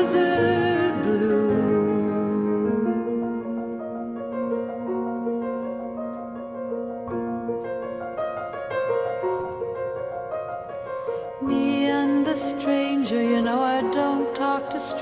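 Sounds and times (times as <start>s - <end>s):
piano chords and slow melody: 0.0s - 15.0s.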